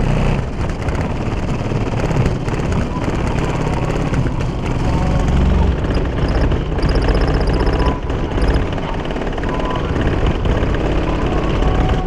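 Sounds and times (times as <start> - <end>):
car panels rattling and buzzing: 0.4 - 12.0.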